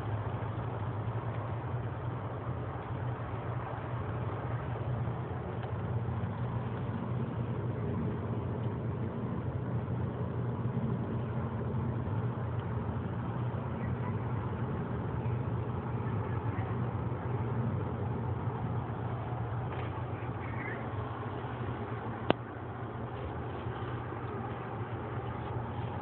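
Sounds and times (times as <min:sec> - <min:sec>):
constant rushing noise: 0:00.0 - 0:26.0.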